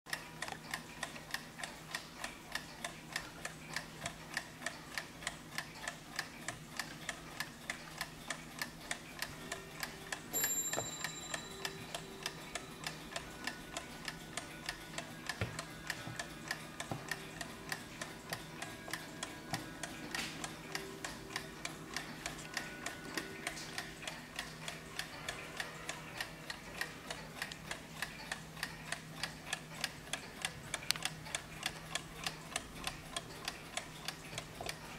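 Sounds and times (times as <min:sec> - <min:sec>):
clock ticking: 0:00.1 - 0:34.9.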